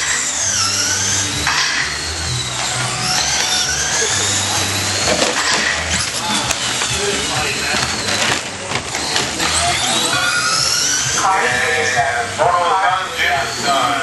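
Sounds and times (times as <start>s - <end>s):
rc truck motors whining: 0.0s - 14.0s.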